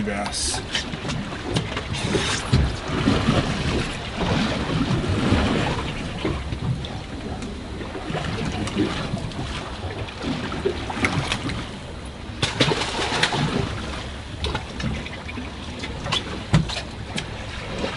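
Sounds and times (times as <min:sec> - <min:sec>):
water slapping against hull: 0:00.0 - 0:17.9
wind: 0:00.0 - 0:17.9.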